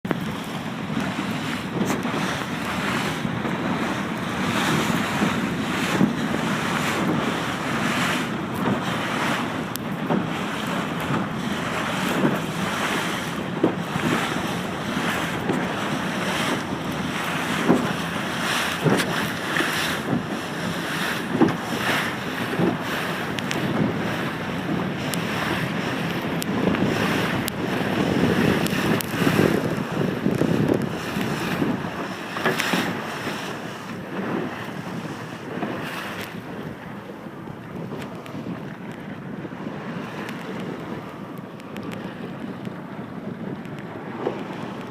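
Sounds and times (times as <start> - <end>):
water rushing along hull: 0.0 - 44.9
waves slapping against boat: 0.0 - 44.9
wind buffeting microphone: 0.0 - 44.9.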